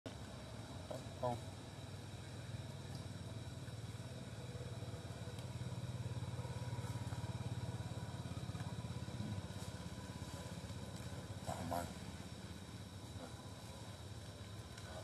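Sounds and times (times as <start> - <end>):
small engine running: 0.8 - 15.0.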